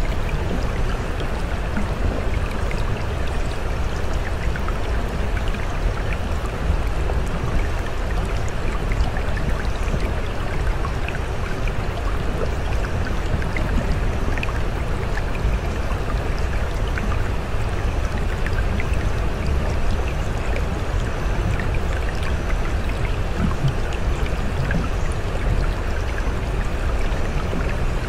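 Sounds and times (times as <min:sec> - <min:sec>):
small drips and splashes: 0:00.0 - 0:28.0
stream water rushing: 0:00.0 - 0:28.0.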